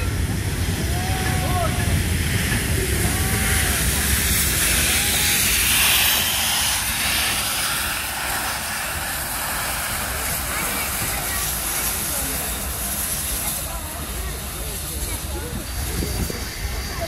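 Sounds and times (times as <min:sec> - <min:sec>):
steam hissing from locomotive: 0:00.0 - 0:17.0
train wheels rumbling over rails: 0:00.0 - 0:17.0.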